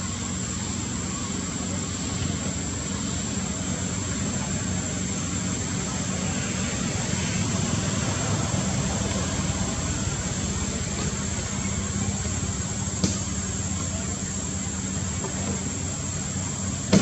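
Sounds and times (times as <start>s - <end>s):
constant hiss: 0.0s - 17.0s.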